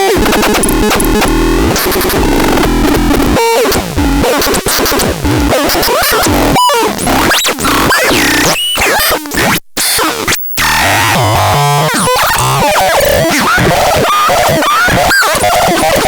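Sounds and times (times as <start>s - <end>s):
glitchy synthesizer tones: 0.0s - 16.0s.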